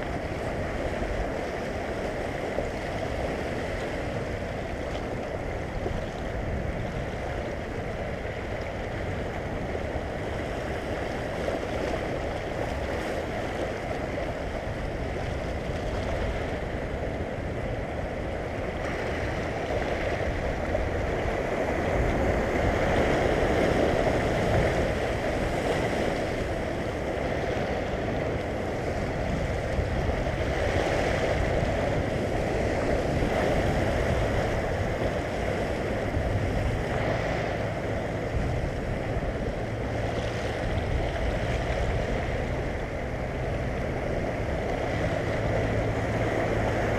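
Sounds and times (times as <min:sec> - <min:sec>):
waves washing over rocks: 0:00.0 - 0:46.9.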